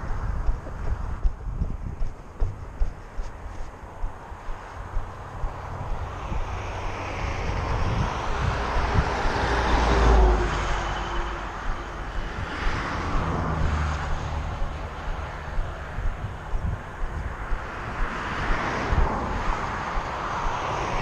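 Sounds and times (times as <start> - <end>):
engine passing by: 4.0 - 21.0.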